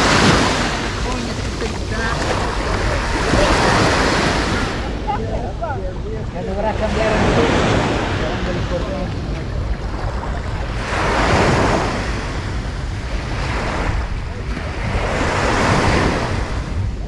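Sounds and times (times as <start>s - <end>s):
sea waves washing up beach: 0.0s - 17.0s
wind rumble on microphone: 0.0s - 17.0s.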